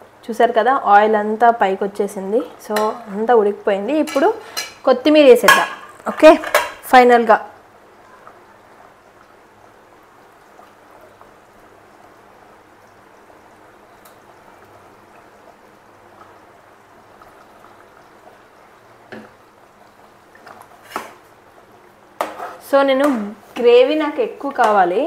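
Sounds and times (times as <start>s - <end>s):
gravy bubbling in a pot: 0.0s - 25.0s.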